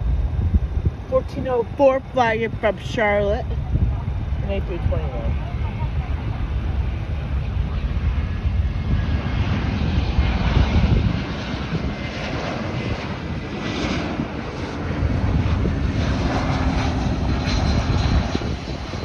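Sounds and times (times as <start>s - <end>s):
jet airliner engines rushing: 0.0s - 19.0s.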